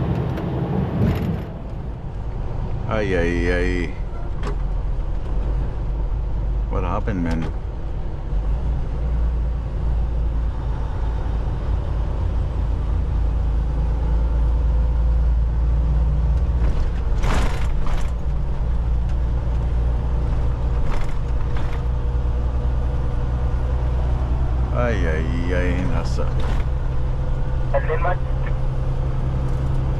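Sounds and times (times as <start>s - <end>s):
truck engine drone in cab: 0.0s - 29.9s.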